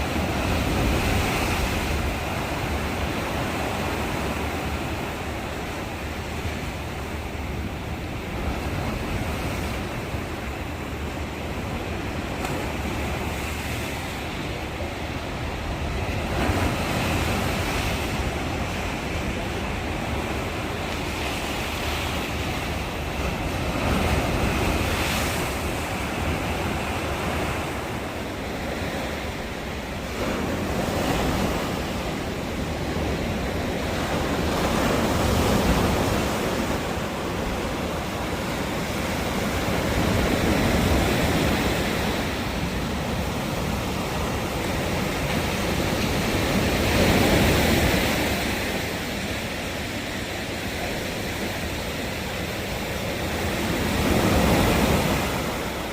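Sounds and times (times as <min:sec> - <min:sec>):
waves breaking on beach: 0:00.0 - 0:55.9.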